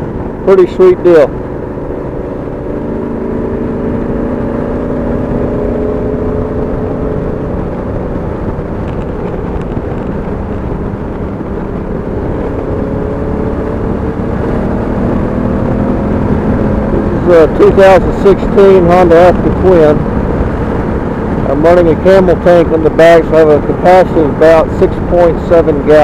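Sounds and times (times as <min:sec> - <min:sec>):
motorcycle engine running: 0:00.0 - 0:26.0
road noise: 0:00.0 - 0:26.0
wind noise: 0:00.0 - 0:26.0.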